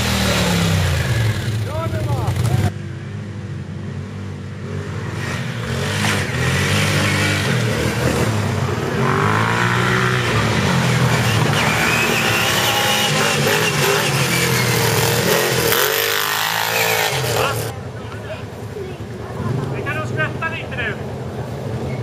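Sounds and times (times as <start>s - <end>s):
atv engine revving: 0.0s - 17.8s.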